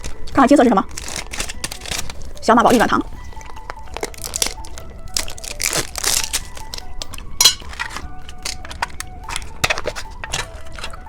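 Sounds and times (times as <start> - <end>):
plastic packaging crinkling: 0.0 - 11.0
plastic packaging snap: 0.9 - 2.8, 3.4 - 11.0.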